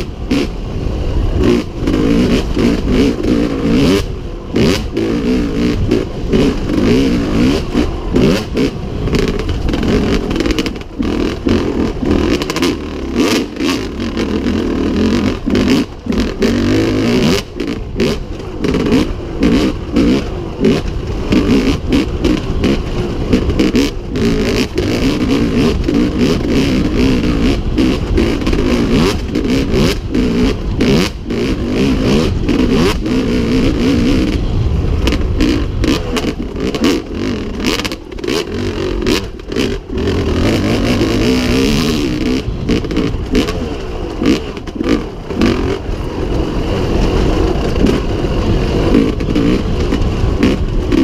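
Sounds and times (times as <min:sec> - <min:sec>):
dirt bike engine revving: 0:00.0 - 0:51.0
knocks and clatter: 0:01.5 - 0:51.0.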